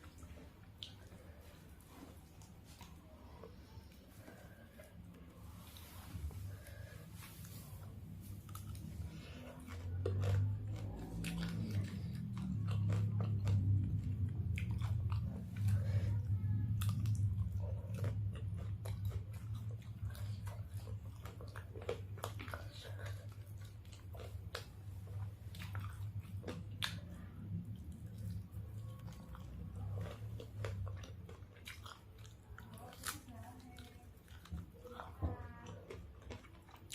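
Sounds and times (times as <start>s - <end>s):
person chewing crispy chicken: 0.0s - 36.9s.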